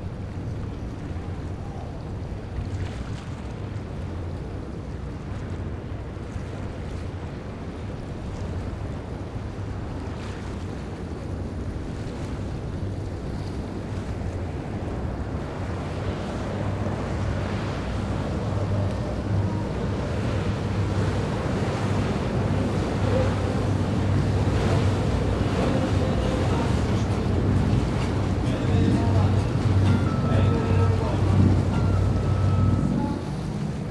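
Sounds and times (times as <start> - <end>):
boat engine drone: 0.0 - 33.9
rushing bow spray and wake: 0.0 - 33.9.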